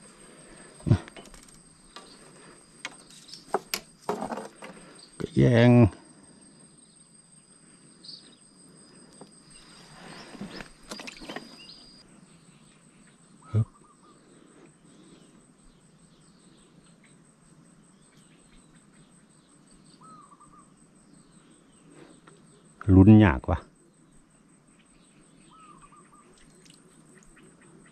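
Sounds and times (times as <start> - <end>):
insects trilling: 0.0 - 27.9.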